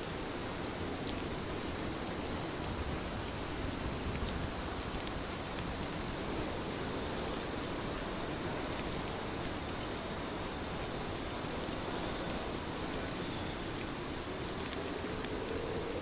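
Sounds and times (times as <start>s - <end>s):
heavy rain hiss: 0.0s - 16.0s.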